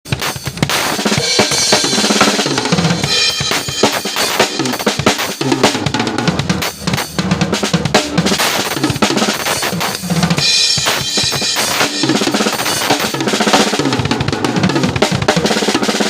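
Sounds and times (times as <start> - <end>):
drum kit played rapidly: 0.0 - 16.0.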